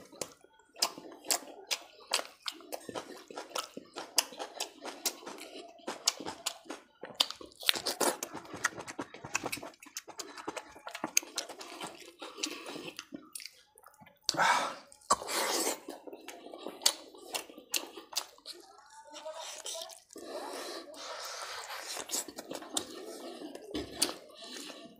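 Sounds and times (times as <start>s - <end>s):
chewing with wet smacking: 0.0s - 24.9s.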